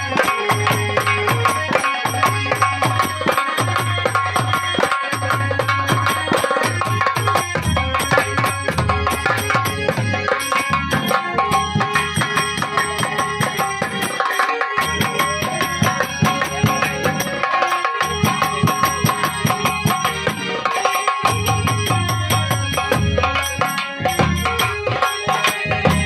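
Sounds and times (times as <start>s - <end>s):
dholak drum beating fast rhythm: 0.0s - 26.0s
held melody line: 0.0s - 26.0s.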